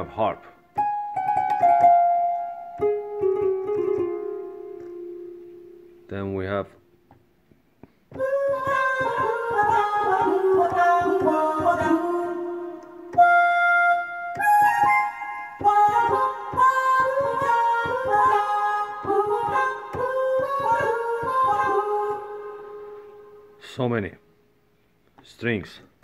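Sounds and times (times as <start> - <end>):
keyboard melody with string voice: 0.0 - 6.8, 8.1 - 23.7.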